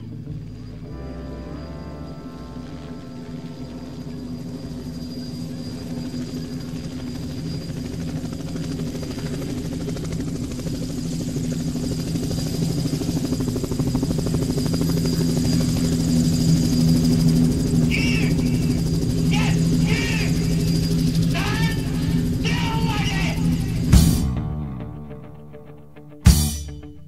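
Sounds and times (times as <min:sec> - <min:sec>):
helicopter rotor: 0:00.0 - 0:24.4.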